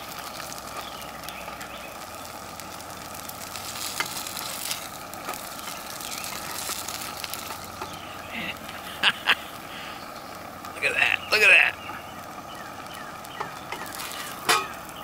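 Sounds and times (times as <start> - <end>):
food sizzling in oil: 0.0 - 10.8, 11.4 - 15.0.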